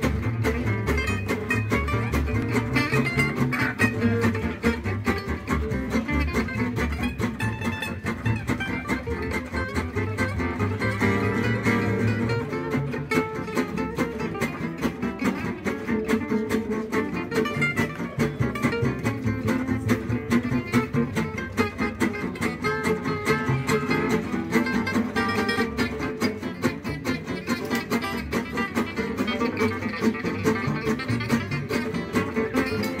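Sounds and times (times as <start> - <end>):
acoustic guitars strumming: 0.0 - 33.0
double bass: 0.0 - 33.0.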